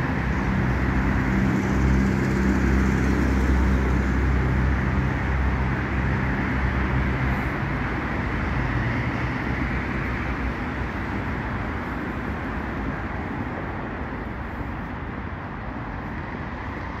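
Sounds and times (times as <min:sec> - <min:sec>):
road traffic rush: 0:00.0 - 0:17.0
vehicle engine hum: 0:00.0 - 0:17.0.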